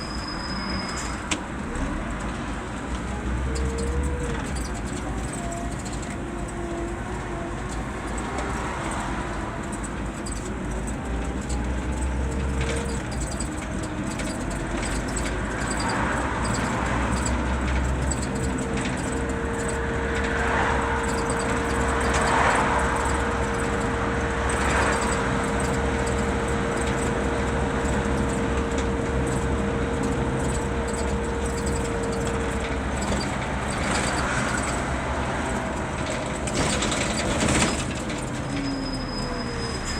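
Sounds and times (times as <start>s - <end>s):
bus diesel engine running: 0.0s - 39.9s
road and tyre noise: 0.0s - 39.9s.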